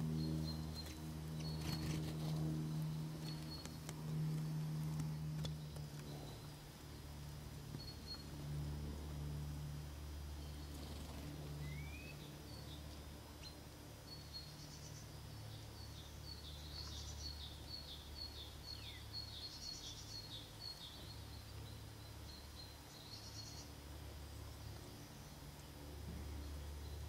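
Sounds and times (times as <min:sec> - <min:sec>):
small songbirds chirping: 0:00.0 - 0:09.4, 0:10.1 - 0:27.0
steady low hum: 0:00.0 - 0:27.0.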